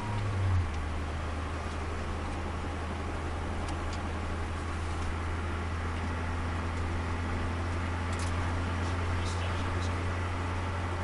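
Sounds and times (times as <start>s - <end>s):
car engine low drone: 0.0s - 11.0s
tyre and road noise: 0.0s - 11.0s.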